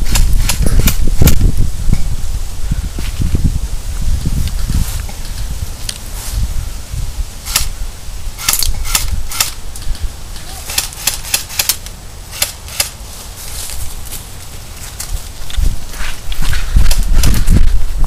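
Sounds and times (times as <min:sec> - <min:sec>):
wind rumble on microphone: 0:00.0 - 0:11.6, 0:14.7 - 0:18.0.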